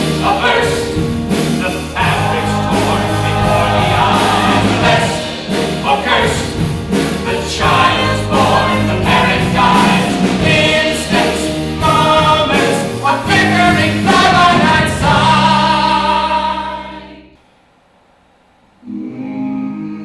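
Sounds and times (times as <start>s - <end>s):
band accompaniment: 0.0s - 17.2s
ensemble singing: 0.0s - 20.0s.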